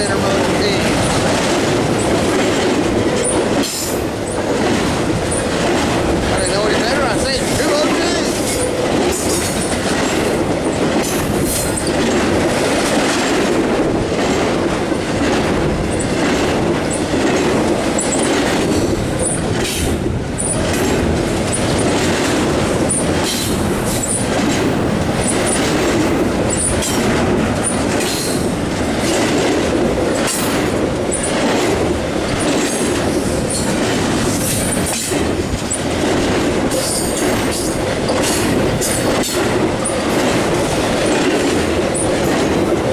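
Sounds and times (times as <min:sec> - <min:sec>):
train cars rolling past: 0:00.0 - 0:42.9
wheels clacking over rail joints: 0:00.0 - 0:42.9.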